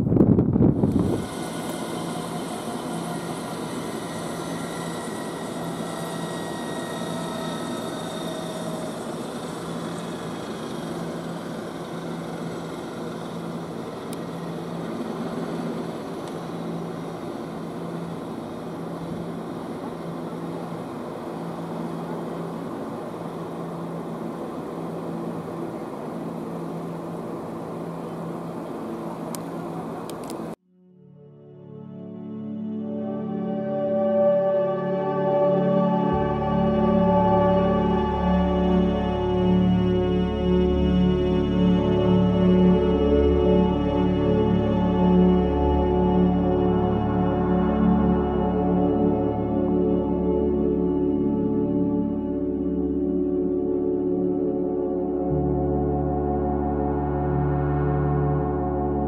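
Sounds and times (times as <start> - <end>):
steady low hum: 0.0 - 30.6, 31.7 - 59.0
turbine engine whining: 0.0 - 30.6, 32.8 - 59.0.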